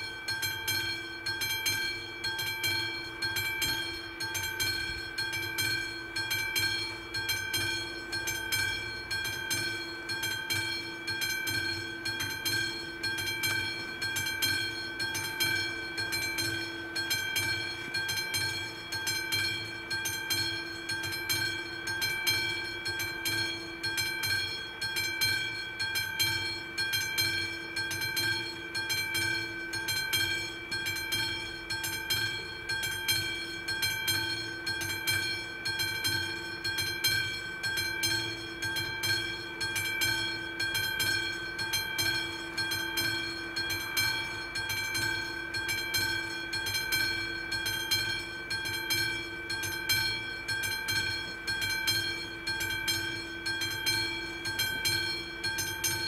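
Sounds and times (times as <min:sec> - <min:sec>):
level crossing bell ringing: 0:00.0 - 0:56.0.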